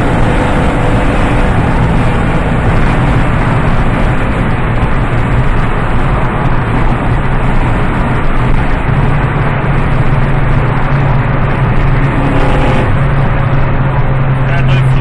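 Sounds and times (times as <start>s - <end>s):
car engine and exhaust droning: 0.0s - 15.0s.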